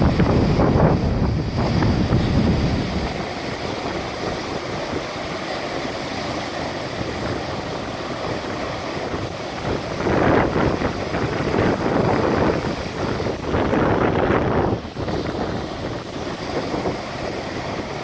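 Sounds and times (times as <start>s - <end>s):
surf breaking against breakwater: 0.0s - 18.0s
wind buffeting microphone: 0.0s - 18.0s.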